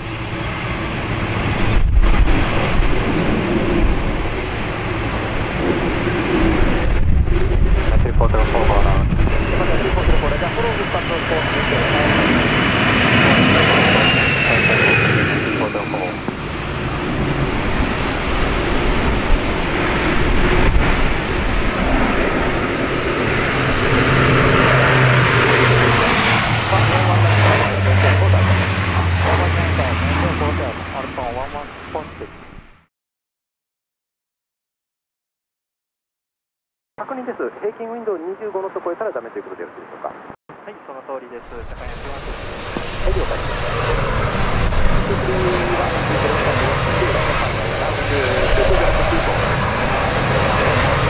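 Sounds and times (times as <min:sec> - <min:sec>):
wind rumbling on microphone: 0:00.0 - 0:32.8, 0:41.4 - 0:51.0
jet engine noise: 0:00.0 - 0:32.9, 0:41.3 - 0:51.0
turboprop aircraft droning: 0:00.0 - 0:32.9, 0:41.4 - 0:51.0.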